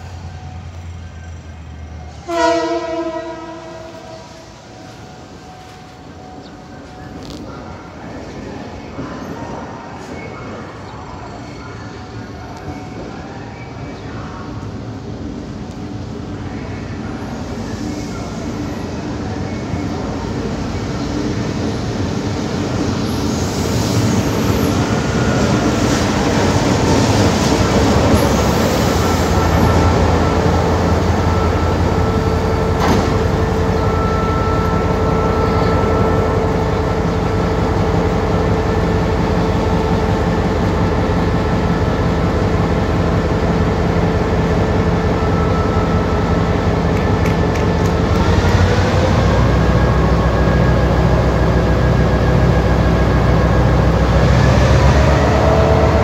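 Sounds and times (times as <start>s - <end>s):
diesel locomotive engine hum: 0.0s - 56.0s.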